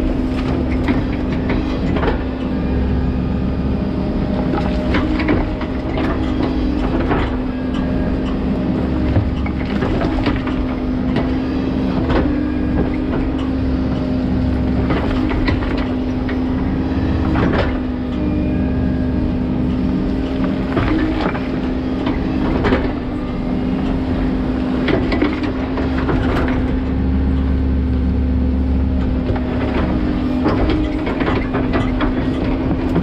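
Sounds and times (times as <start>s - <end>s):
excavator engine and hydraulics hum: 0.0s - 33.0s.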